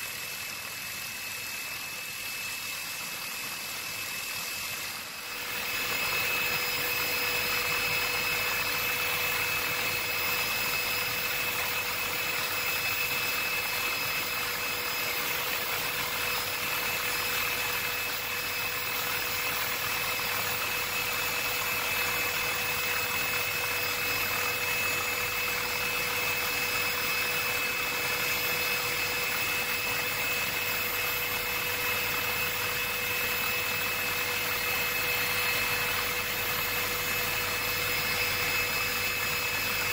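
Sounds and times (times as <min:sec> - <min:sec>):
helicopter cabin rush and whine: 0:00.0 - 0:39.9.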